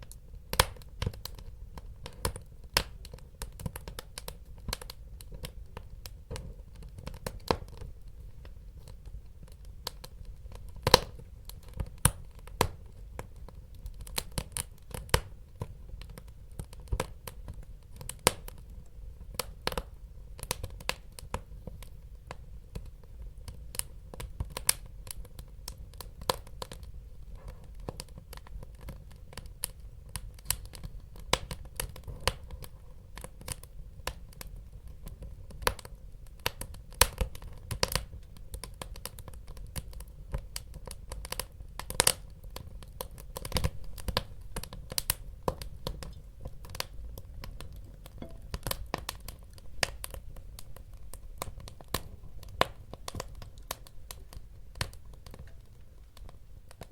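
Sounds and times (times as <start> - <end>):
burning logs crackling and popping: 0.0 - 56.9
low rumble of flames: 0.0 - 56.9.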